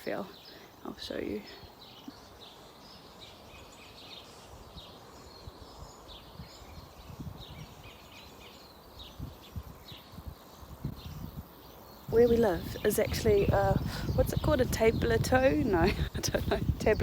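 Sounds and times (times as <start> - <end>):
forest birds singing: 0.0 - 17.0.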